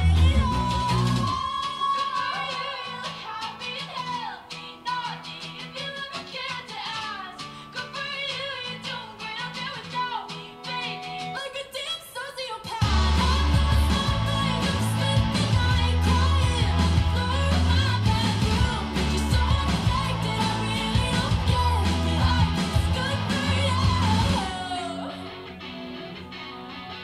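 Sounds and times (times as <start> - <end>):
pop-punk song with woman singing: 0.0 - 27.0.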